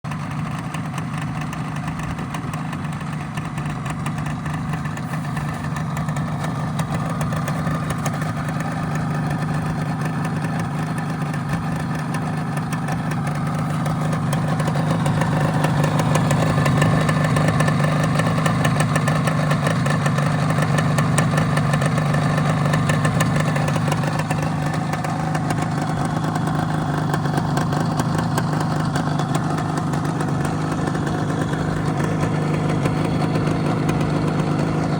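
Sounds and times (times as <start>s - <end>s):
two-stroke motorcycle engine idling: 0.0s - 34.9s.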